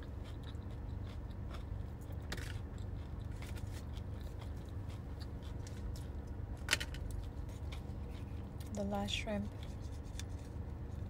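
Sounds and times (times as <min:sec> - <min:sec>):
chewing crispy fried food: 0:00.0 - 0:11.0
steady low hum: 0:00.0 - 0:11.0.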